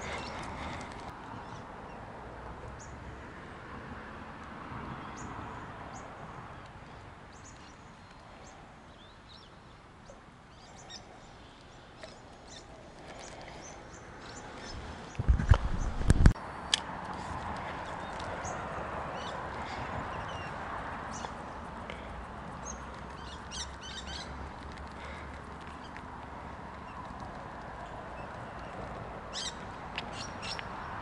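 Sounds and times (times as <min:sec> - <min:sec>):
small birds chirping: 0:00.0 - 0:02.0, 0:05.0 - 0:16.1, 0:17.6 - 0:31.0
steady outdoor hiss: 0:00.0 - 0:31.0.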